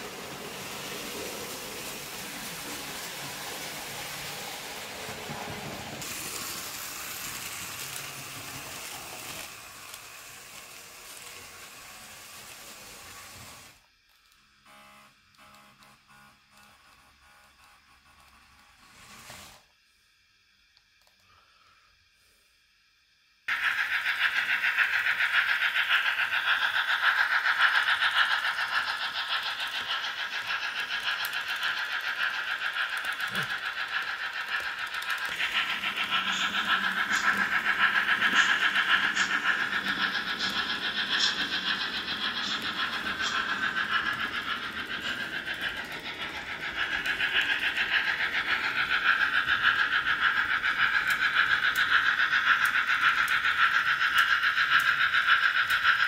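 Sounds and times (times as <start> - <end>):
model train whirring rattle: 0.0 - 14.4, 23.5 - 56.0.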